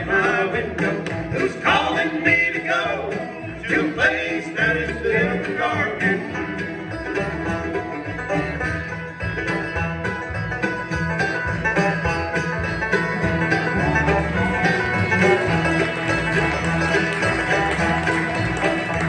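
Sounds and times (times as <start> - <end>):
banjo: 0.0 - 19.0
bluegrass band playing: 0.0 - 19.0.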